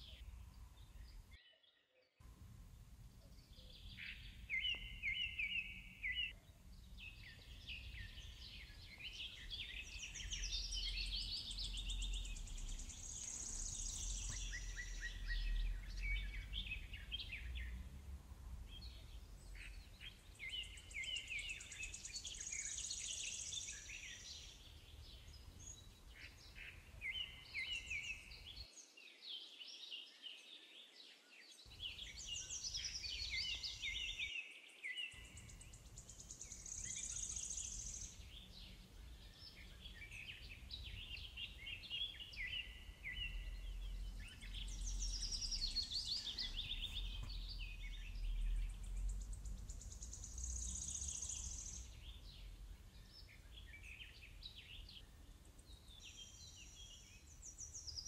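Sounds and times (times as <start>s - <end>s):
faint background hiss: 0.0s - 1.4s, 2.2s - 58.0s
birds singing: 0.0s - 58.0s.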